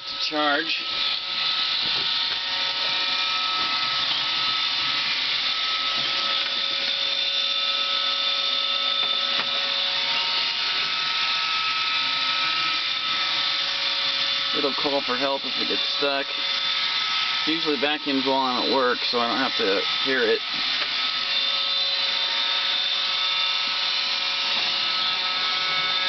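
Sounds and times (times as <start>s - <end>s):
robot vacuum whine: 0.0s - 26.0s.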